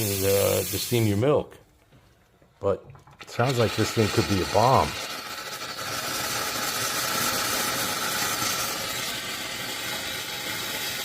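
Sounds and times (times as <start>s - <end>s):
steam hissing from steam wand: 0.0s - 1.4s, 3.3s - 11.0s.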